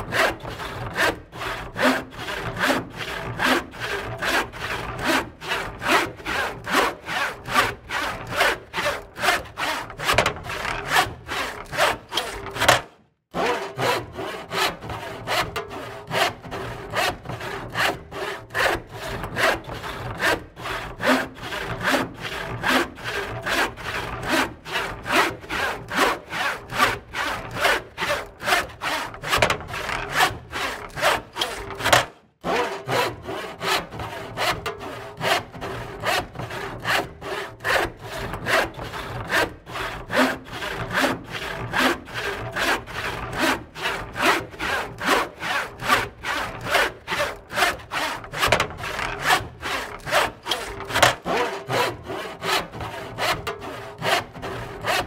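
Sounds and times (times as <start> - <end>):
hand saw cutting wood: 0.0 - 55.0.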